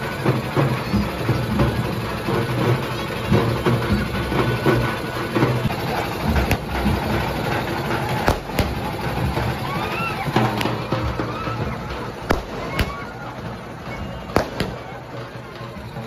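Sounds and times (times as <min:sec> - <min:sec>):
firecrackers banging: 0:00.0 - 0:16.0
frame drums beating fast rhythm: 0:00.0 - 0:16.0.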